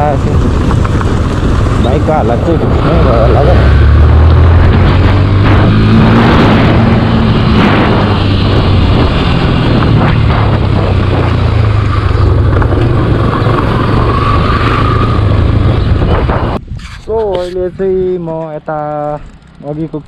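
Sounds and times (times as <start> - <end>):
motorcycle engine running: 0.0 - 16.7, 17.8 - 20.0
wind rushing over microphone: 0.0 - 19.4.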